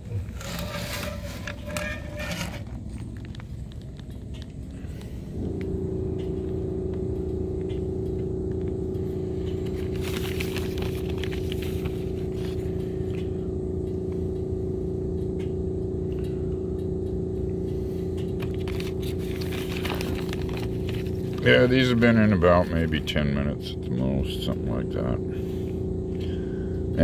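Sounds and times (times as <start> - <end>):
steady motor hum: 0.0 - 27.0.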